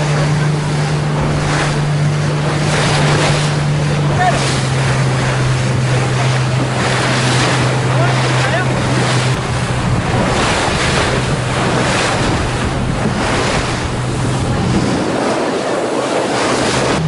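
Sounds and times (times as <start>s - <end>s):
low motor hum: 0.0s - 17.0s
water and waves rushing: 0.0s - 17.0s
wind buffeting microphone: 0.0s - 17.0s.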